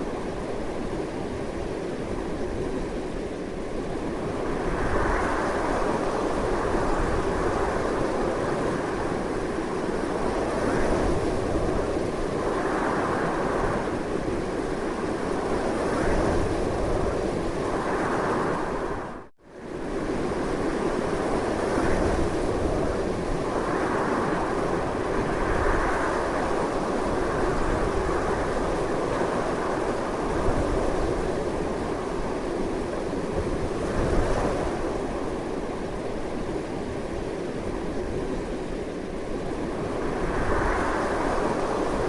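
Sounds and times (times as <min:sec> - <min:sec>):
strong wind gusting: 0:00.0 - 0:42.0.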